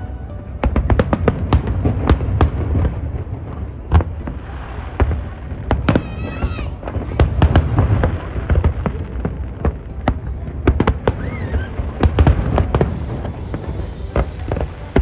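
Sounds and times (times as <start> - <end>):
fireworks bangs: 0.6 - 15.0.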